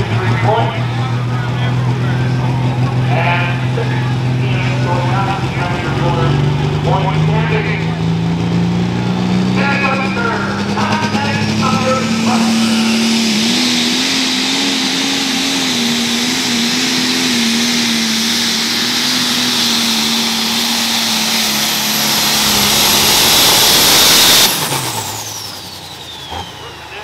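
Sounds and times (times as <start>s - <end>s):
diesel tractor engine under load: 0.0s - 27.0s.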